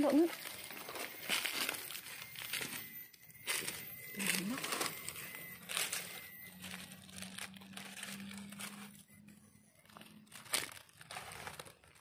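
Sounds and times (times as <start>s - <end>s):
dry leaves rustling and crackling: 0.0s - 2.8s, 3.5s - 8.9s, 9.9s - 12.0s.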